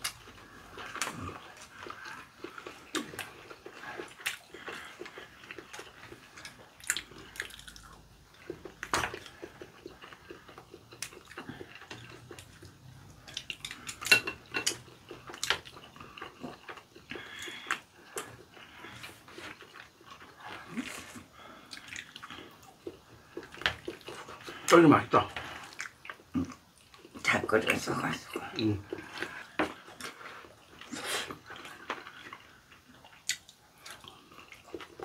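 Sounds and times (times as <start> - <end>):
food chewing: 0.0 - 35.0.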